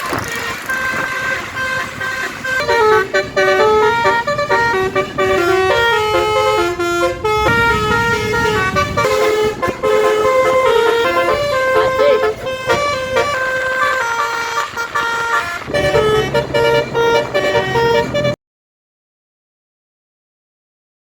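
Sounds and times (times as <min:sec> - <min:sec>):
bus musical air horn melody: 0:00.0 - 0:18.4.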